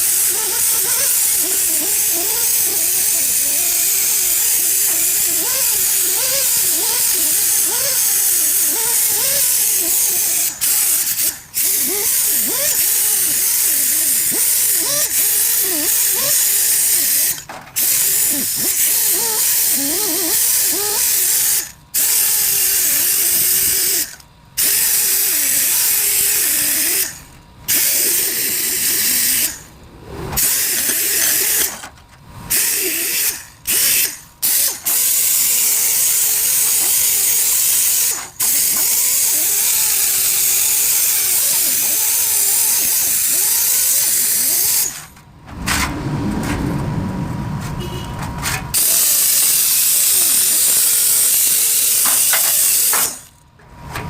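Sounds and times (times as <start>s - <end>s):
compressed-air tool hissing: 0.0s - 29.6s, 30.4s - 31.8s, 32.5s - 45.0s, 48.8s - 53.3s.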